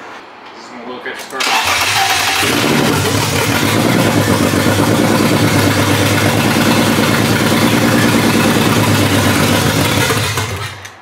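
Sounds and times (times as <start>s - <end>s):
car engine turning over: 1.4s - 11.0s.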